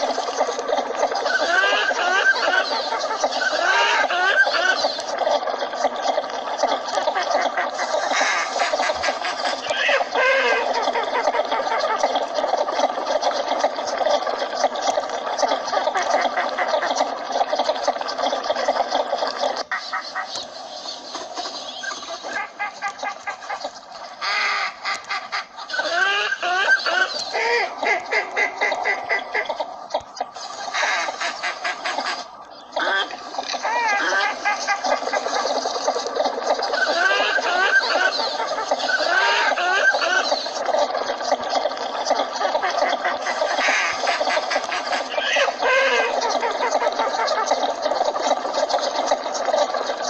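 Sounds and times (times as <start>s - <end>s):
ducks clucking calls: 0.0s - 50.0s.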